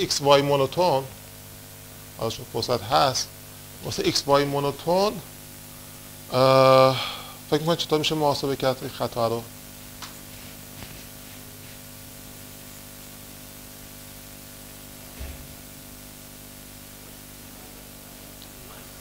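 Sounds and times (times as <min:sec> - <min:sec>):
electrical hum: 0:00.0 - 0:19.0
steady hiss: 0:00.0 - 0:19.0.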